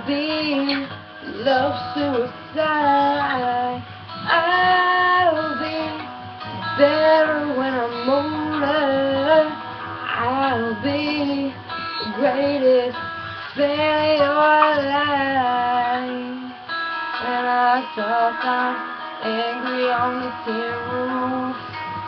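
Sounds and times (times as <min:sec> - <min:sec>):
guitar accompaniment: 0:00.0 - 0:22.0
woman singing pop ballad: 0:00.0 - 0:22.0.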